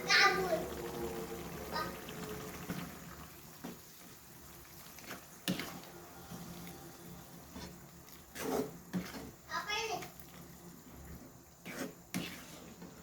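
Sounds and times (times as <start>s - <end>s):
faint running water: 0.0s - 13.0s.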